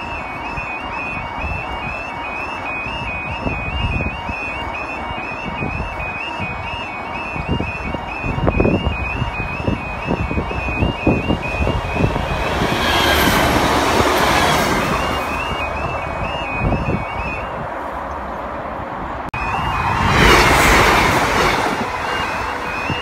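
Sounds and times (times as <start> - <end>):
two-tone crossing alarm: 0.0 - 17.6, 19.4 - 23.0
train passing: 0.0 - 23.0.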